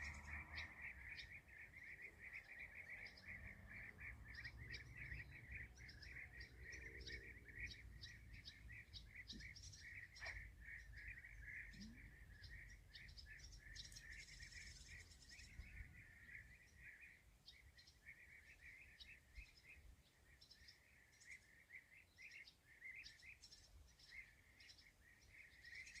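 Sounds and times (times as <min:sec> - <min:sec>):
animals chirping in chorus: 0:00.0 - 0:26.0.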